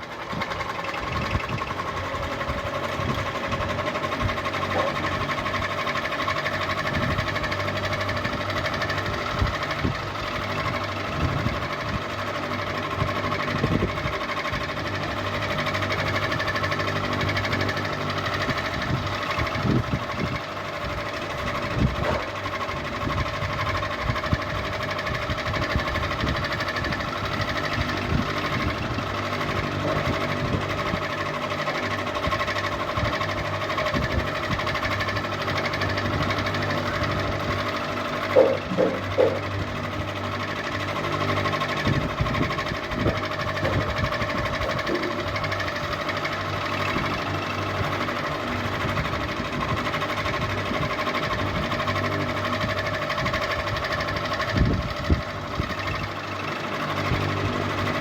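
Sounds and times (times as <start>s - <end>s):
ceiling fan motor hum: 0.0s - 58.0s
fan ticks and knocks: 0.0s - 58.0s.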